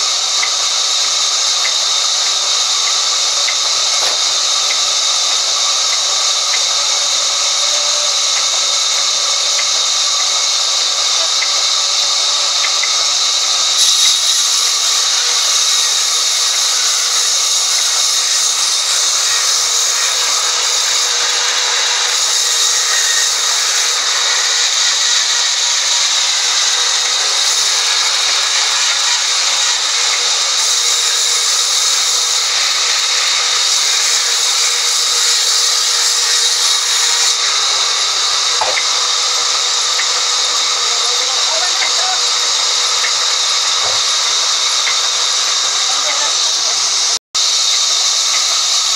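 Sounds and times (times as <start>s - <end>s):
band saw cutting wood: 0.0s - 48.9s.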